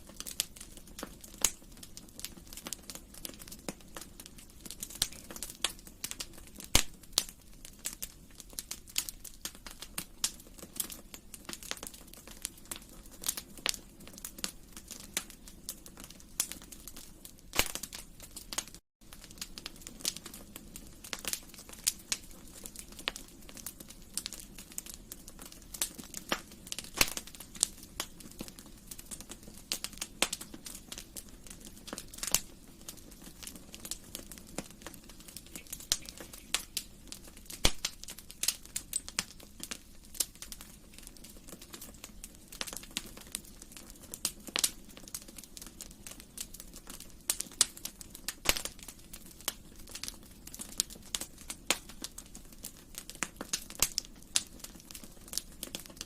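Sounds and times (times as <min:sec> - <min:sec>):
low rush of burning fire: 0:00.0 - 0:56.0
wood fire crackling: 0:00.0 - 0:56.0.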